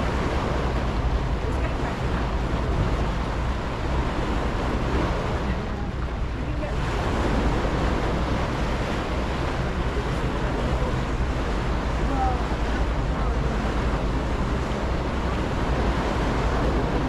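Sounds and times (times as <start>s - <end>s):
ferry engine drone: 0.0s - 17.0s
water washing along hull: 0.0s - 17.0s
wind on microphone: 0.0s - 17.0s.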